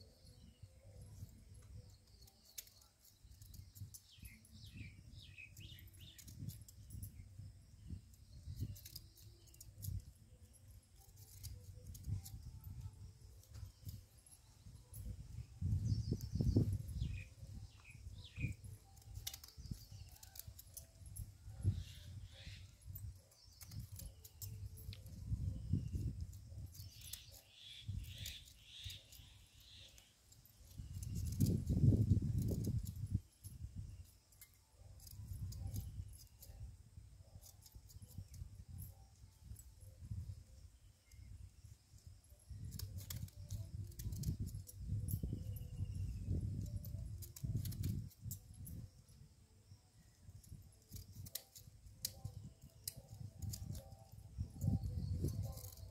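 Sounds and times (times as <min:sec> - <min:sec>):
faint chirp: 0:00.0 - 0:55.9.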